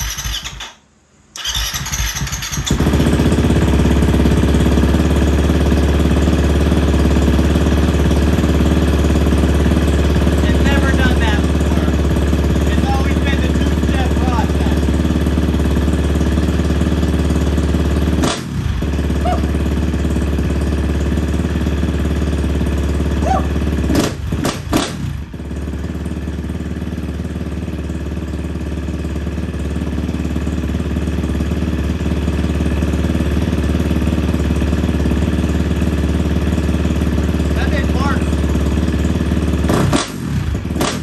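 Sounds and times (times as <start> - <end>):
dirt bike engine idling: 0.0 - 41.0.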